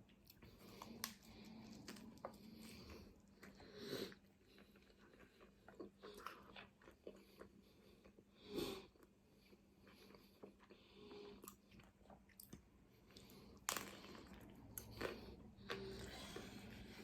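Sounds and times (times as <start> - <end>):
faint chewing and biting: 0.0 - 17.0.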